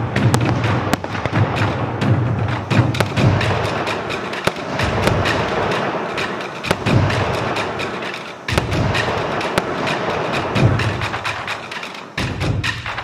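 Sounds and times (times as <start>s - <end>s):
deep firework booms: 0.0s - 11.3s
sharp firework cracks and crackle: 0.0s - 13.0s.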